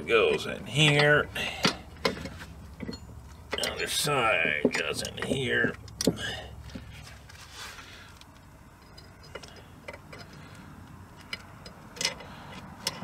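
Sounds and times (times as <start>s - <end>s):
faint clicks and taps of metal parts: 0.3s - 7.4s, 8.1s - 13.0s.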